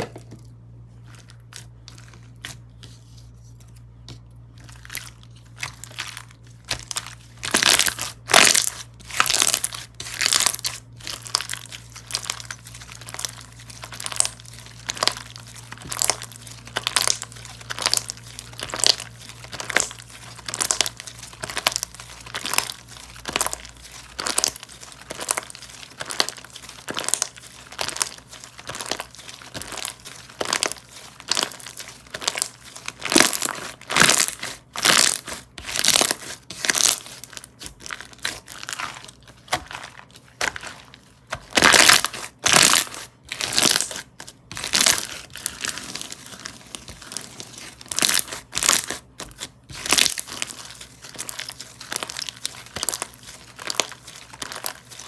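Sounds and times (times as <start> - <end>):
slime squished by hand: 4.5 - 55.0.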